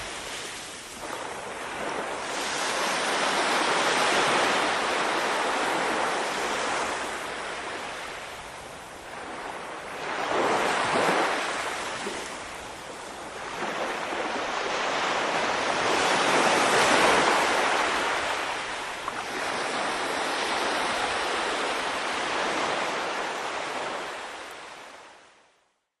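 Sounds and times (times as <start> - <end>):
sea waves lapping on sand: 0.0 - 25.2.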